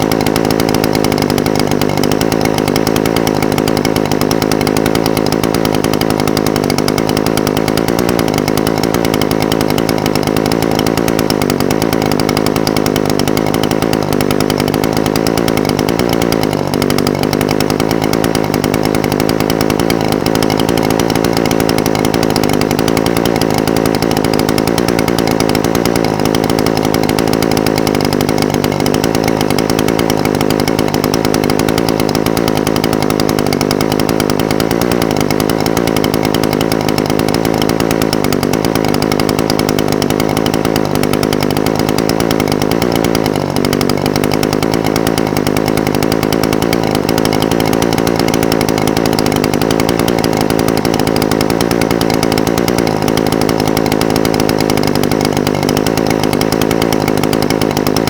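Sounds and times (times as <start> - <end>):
brush cutter engine idling: 0.0 - 58.0.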